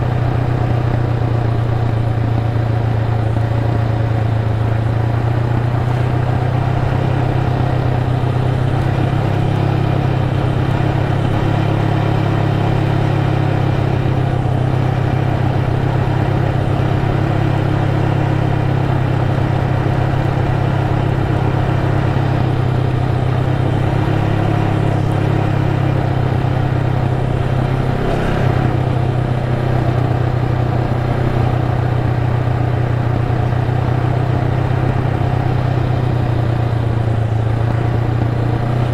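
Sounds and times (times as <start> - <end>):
motorcycle engine droning: 0.0 - 38.9.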